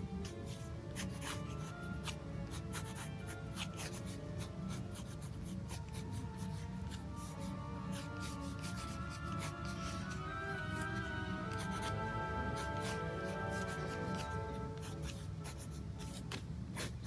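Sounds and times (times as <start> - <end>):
background music: 0.0 - 17.0
pen nib scratching on paper: 0.0 - 17.0.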